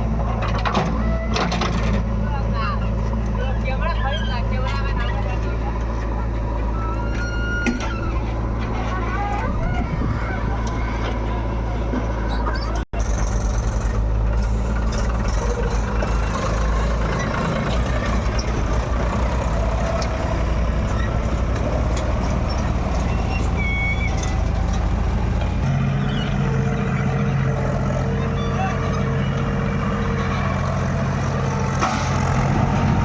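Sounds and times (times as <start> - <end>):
heavy diesel machinery engine: 0.0 - 33.0.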